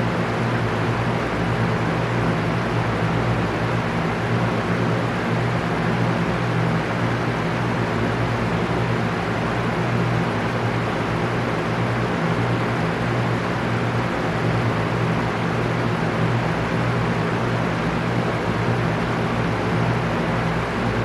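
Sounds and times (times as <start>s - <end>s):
fan air whoosh: 0.0s - 21.0s.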